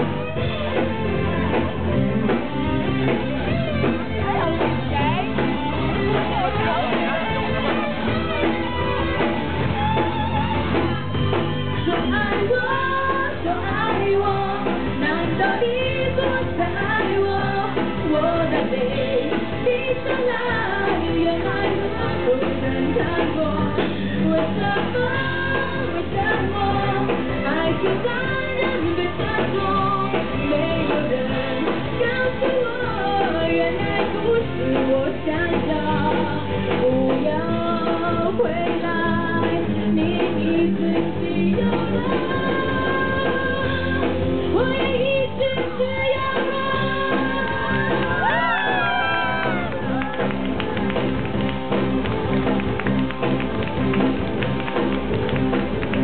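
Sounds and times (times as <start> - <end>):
electric bass guitar: 0.0 - 56.0
live band playing: 0.0 - 56.0.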